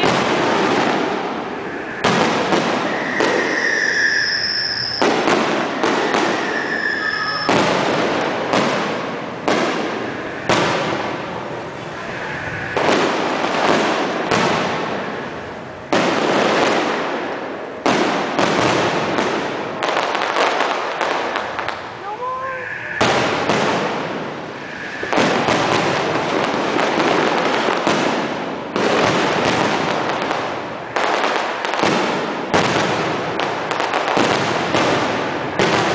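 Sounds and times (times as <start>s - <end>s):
firework whistles: 0.0s - 17.0s, 18.0s - 33.0s
firework shells bursting: 0.0s - 22.2s, 22.9s - 35.9s.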